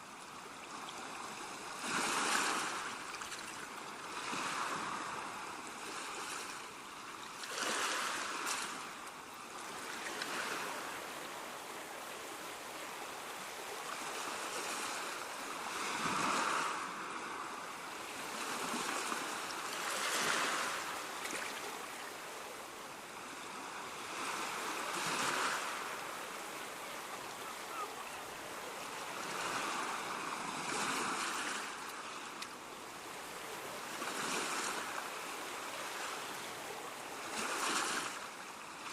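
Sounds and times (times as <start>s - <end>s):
waves washing in: 0.2s - 38.9s.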